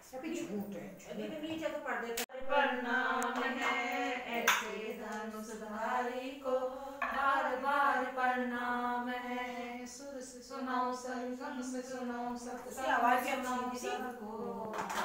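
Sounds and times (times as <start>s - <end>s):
women singing: 2.2s - 15.0s.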